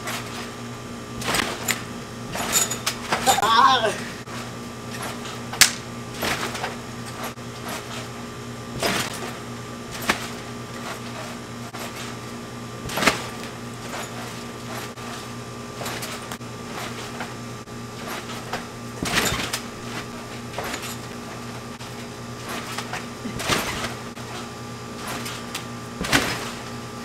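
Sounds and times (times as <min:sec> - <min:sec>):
steady hum: 0:00.0 - 0:27.0
trampoline thudding and creaking: 0:00.0 - 0:27.0.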